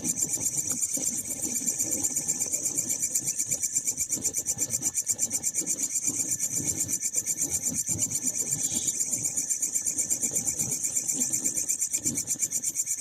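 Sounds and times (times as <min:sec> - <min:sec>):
insect stridulating: 0:00.0 - 0:13.0.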